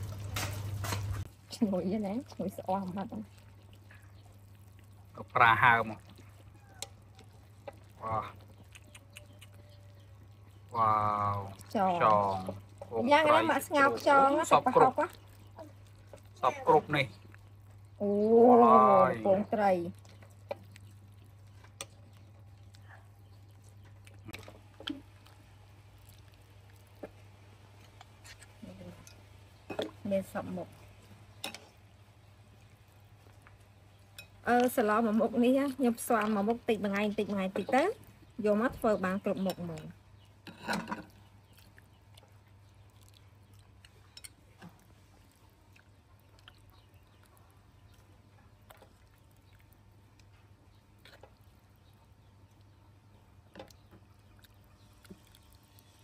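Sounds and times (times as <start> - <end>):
food chewing clicks: 2.2 - 18.0, 19.4 - 56.0.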